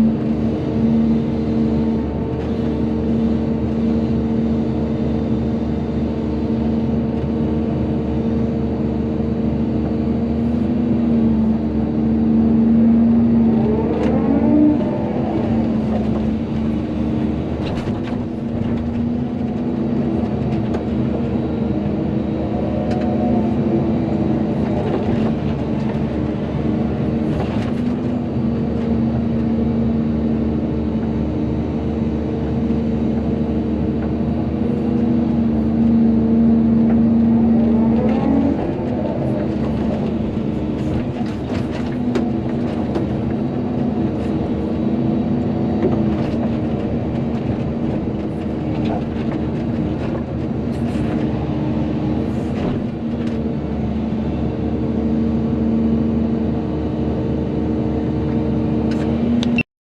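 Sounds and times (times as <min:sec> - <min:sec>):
excavator diesel engine running: 0:00.0 - 0:59.7.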